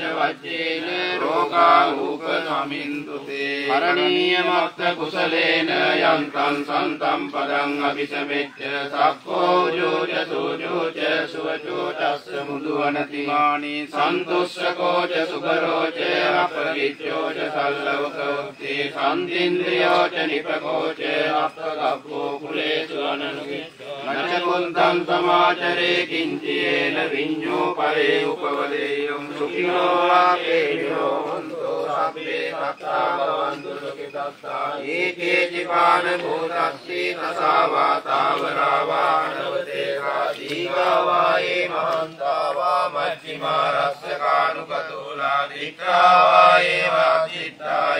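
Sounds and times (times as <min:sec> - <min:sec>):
monks chanting together: 0:00.0 - 0:47.9.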